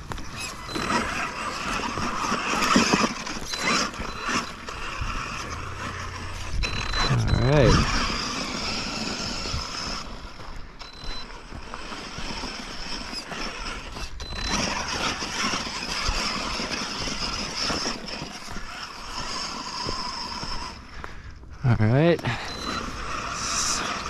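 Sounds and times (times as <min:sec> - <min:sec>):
toy truck electric motor running: 0:00.0 - 0:21.0, 0:22.1 - 0:24.0.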